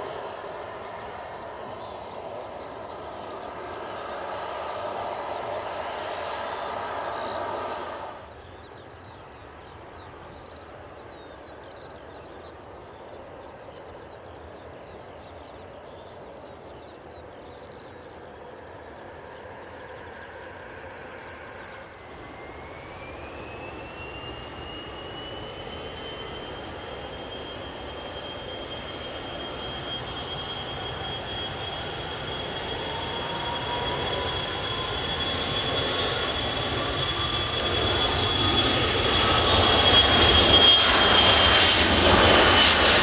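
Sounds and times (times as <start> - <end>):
jet engine whine rising: 0.0 - 43.0
jet engines running: 0.0 - 43.0.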